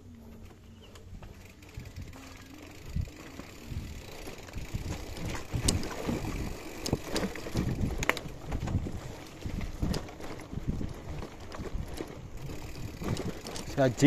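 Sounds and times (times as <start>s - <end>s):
sharp clicks and rattles: 0.8s - 14.0s
wind buffeting microphone: 1.0s - 14.0s.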